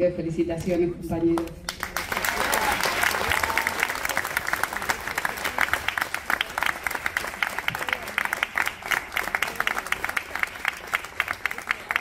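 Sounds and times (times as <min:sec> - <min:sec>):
people clapping: 0:01.3 - 0:12.0.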